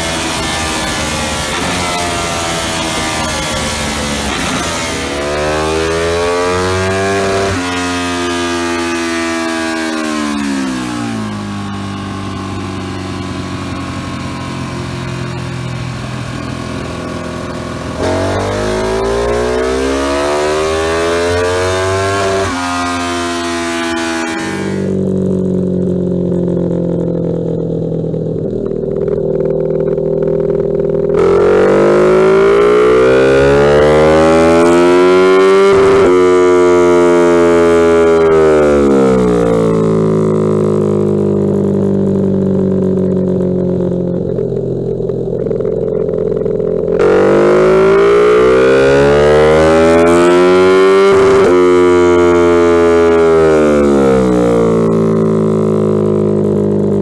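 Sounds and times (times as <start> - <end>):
motorcycle engine revving on dyno: 0.0 - 28.2, 28.9 - 57.0.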